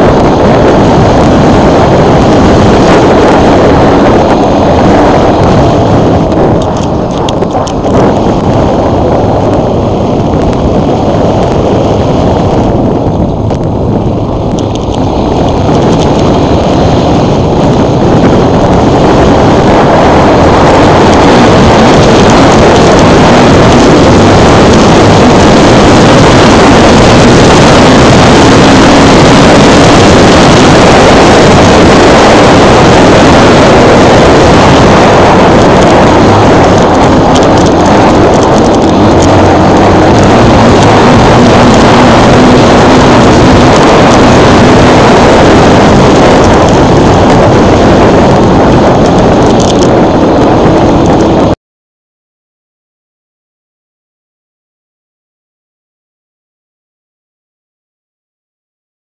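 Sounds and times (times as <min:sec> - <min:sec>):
motorcycle engine revving: 0:00.0 - 0:51.6
wind on microphone: 0:00.0 - 0:51.6.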